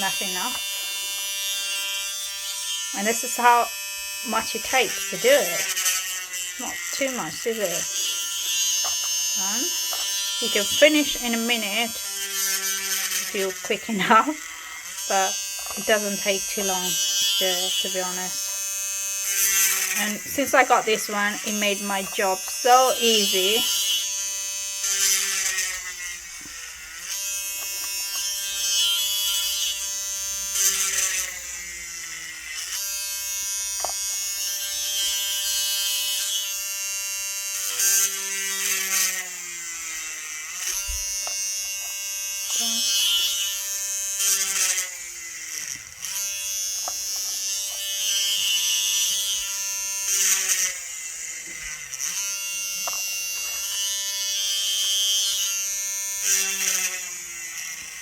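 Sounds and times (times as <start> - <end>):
drill bit grinding into resin: 0.0 - 58.0
mini electric drill whining: 0.0 - 58.0.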